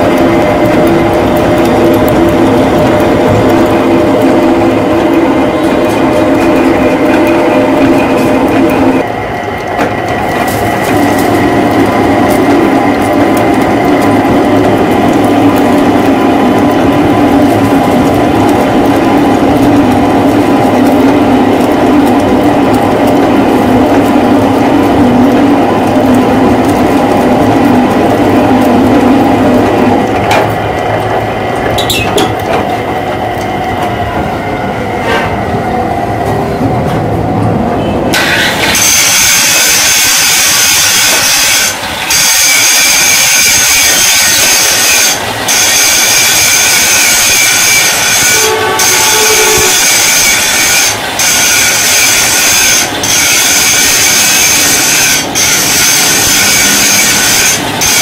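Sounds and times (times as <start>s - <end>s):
metal lathe cutting steel: 0.0s - 33.5s, 38.1s - 58.0s.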